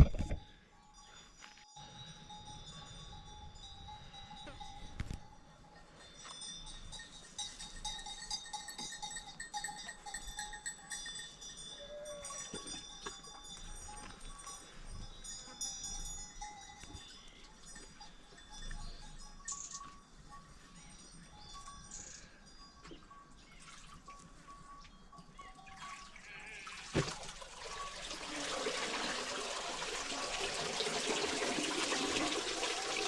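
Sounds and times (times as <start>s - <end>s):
sheep bells tinkling and clanking: 0.0s - 26.7s, 27.5s - 28.4s.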